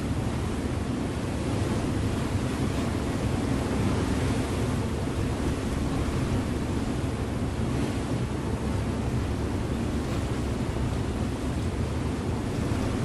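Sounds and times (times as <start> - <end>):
ship engine drone: 0.0 - 13.0
water rushing along hull: 0.0 - 13.0
wind on microphone: 0.0 - 13.0.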